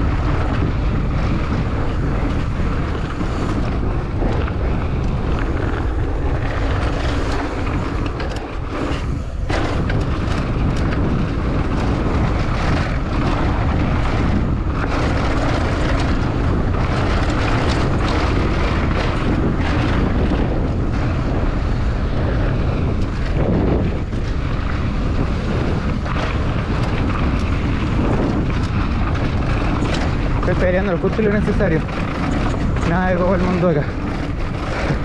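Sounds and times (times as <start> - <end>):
bike knocking and rattling: 0.0 - 35.0
tyre noise on dirt: 0.0 - 35.0
wind rush on microphone: 0.0 - 35.0.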